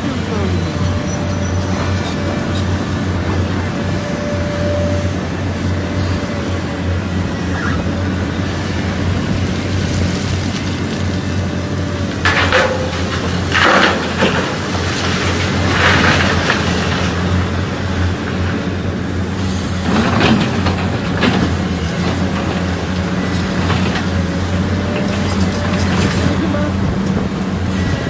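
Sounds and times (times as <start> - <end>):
dirt and rock rushing: 0.0 - 28.0
excavator diesel engine running: 0.0 - 28.0.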